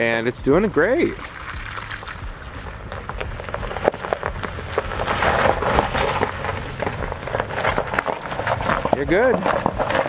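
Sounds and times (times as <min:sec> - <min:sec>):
engine humming low: 0:00.0 - 0:10.0
tyres crunching over gravel: 0:00.0 - 0:10.0.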